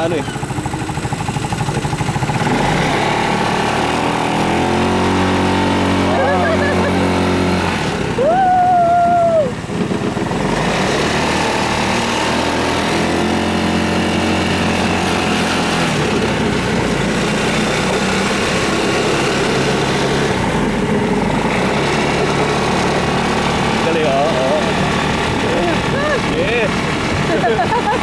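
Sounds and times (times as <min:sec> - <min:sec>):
dune buggy engine running: 0:00.0 - 0:28.0.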